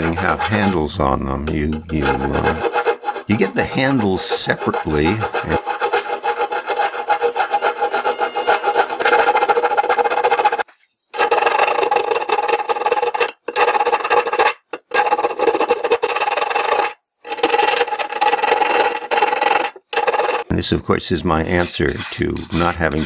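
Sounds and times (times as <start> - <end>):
file rasping in metal slot: 0.0 - 20.4, 21.5 - 23.0.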